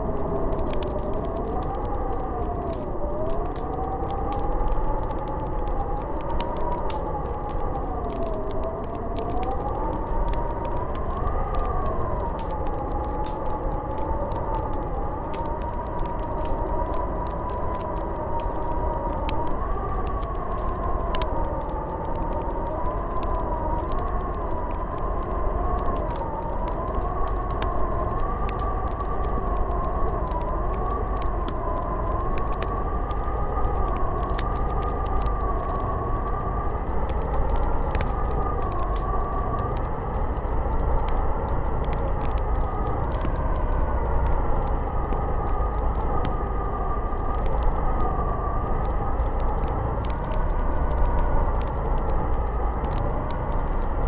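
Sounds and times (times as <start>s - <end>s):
faint crackling ticks: 0.0s - 54.0s
wind howling: 0.0s - 54.0s.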